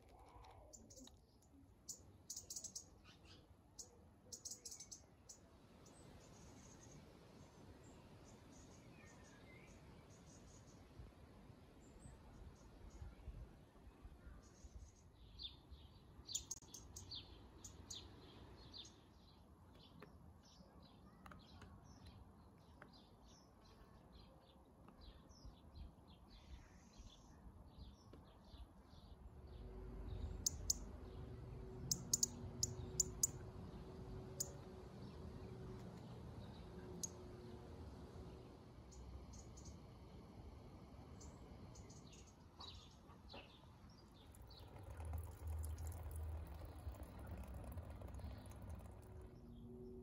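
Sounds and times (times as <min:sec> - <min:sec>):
small birds chirping: 0:00.0 - 0:07.0, 0:14.2 - 0:37.3, 0:38.4 - 0:40.0, 0:41.0 - 0:50.0.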